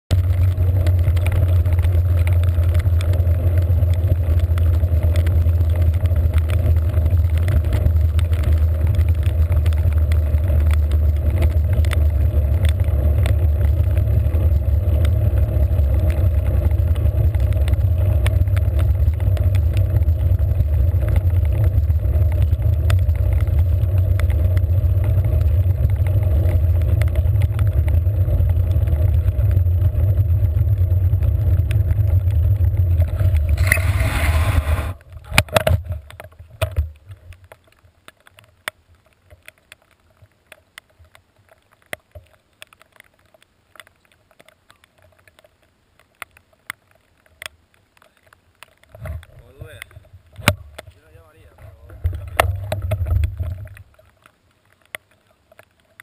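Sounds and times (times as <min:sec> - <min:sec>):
wind and road rumble: 0:00.0 - 0:56.0
raindrops clicking on camera case: 0:00.1 - 0:56.0.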